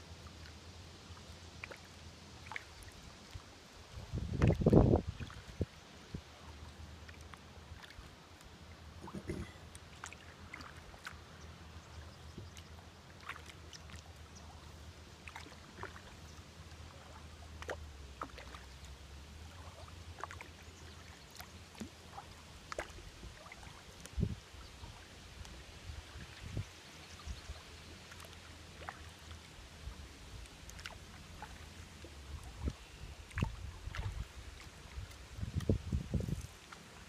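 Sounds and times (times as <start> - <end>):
paddle splashing water: 0.0 - 37.0.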